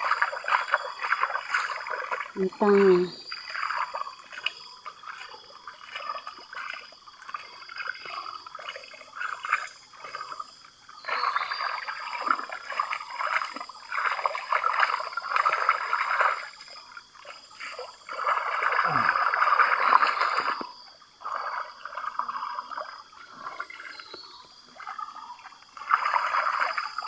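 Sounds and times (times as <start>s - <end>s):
water swishing in a pan: 0.0s - 27.0s.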